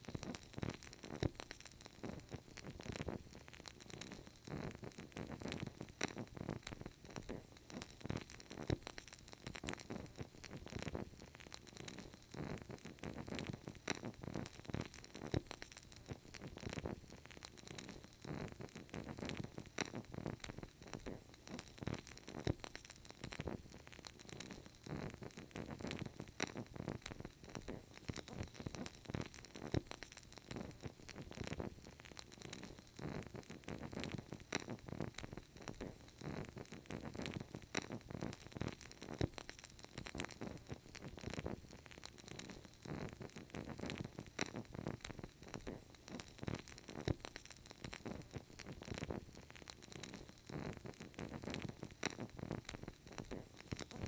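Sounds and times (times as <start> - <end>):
candle wick crackling: 0.0 - 54.0.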